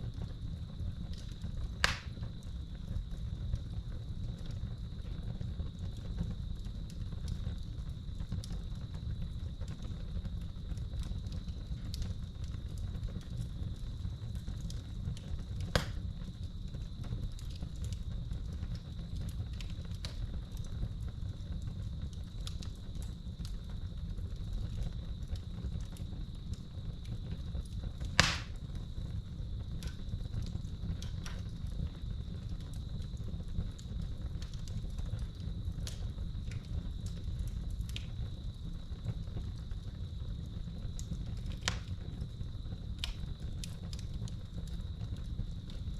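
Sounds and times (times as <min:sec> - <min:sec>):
fire popping: 0:00.0 - 0:45.9
wood fire crackling: 0:00.0 - 0:45.9.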